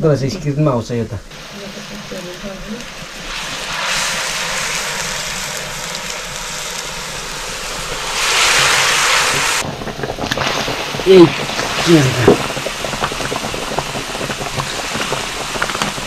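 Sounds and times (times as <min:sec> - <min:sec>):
pork sizzling in hot oil: 0:01.3 - 0:16.0.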